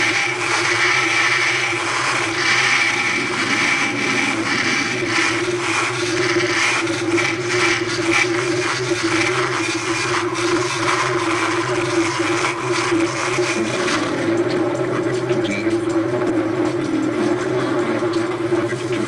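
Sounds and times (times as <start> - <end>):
machine-like whirring drone: 0.0 - 19.0.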